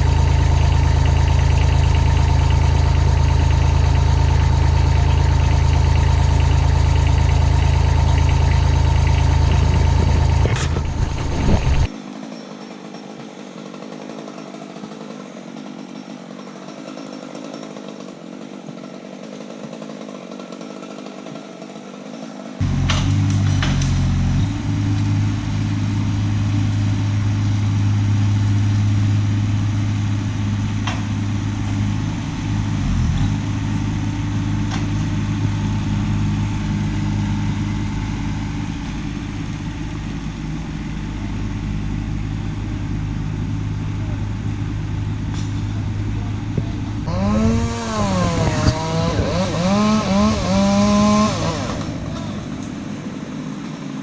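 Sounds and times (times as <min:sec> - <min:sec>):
chainsaw engine running and revving: 0:00.0 - 0:12.3, 0:12.9 - 0:54.0.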